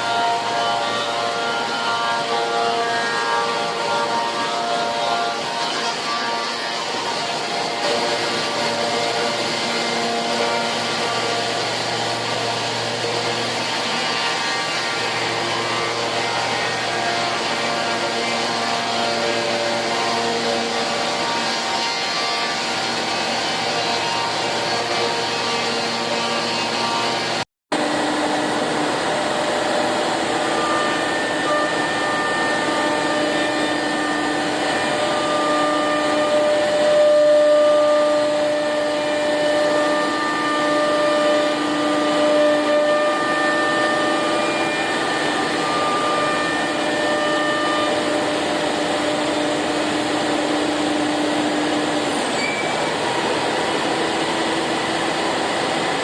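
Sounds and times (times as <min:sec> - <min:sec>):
router machine running: 0:00.0 - 0:56.0.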